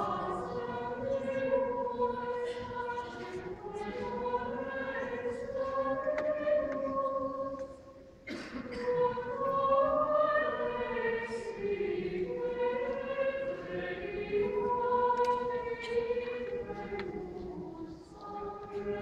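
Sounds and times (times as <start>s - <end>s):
choir singing a chant: 0.0s - 19.0s.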